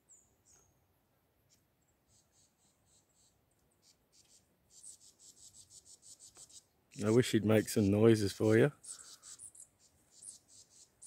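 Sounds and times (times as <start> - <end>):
faint high-pitched chirps and ticks: 0.0 - 11.0.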